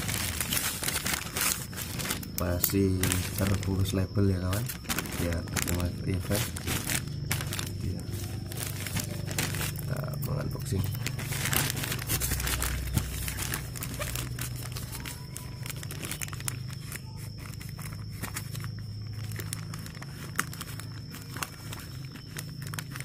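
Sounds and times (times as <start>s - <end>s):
plastic bag crinkling: 0.0s - 23.0s.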